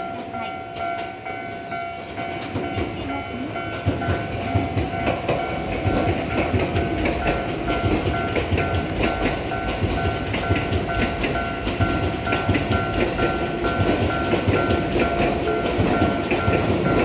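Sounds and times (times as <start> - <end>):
train wheels clacking over rail joints: 0.0 - 17.0
two-tone level crossing bell: 0.0 - 17.0.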